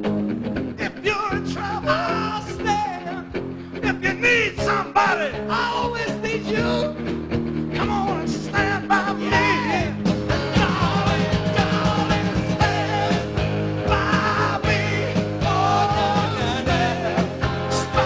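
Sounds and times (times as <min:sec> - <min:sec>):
rock music with singing: 0:00.0 - 0:18.0.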